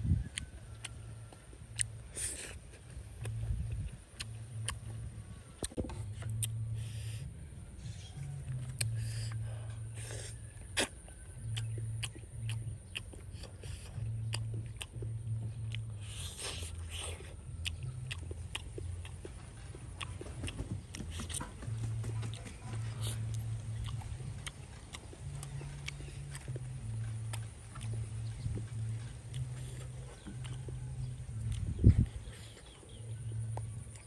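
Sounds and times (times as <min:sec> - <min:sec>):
chewing and biting: 0:00.0 - 0:34.0
low hum: 0:00.0 - 0:34.0.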